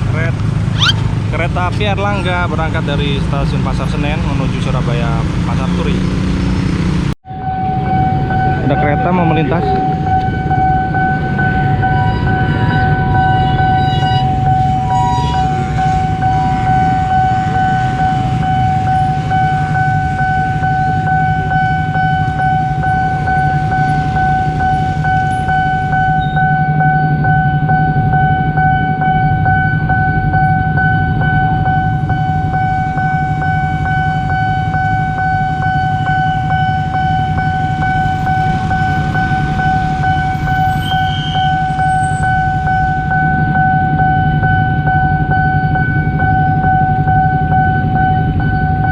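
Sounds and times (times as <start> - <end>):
train rumbling: 0.0 - 48.9
level crossing alarm tone: 0.8 - 1.0, 7.3 - 48.9.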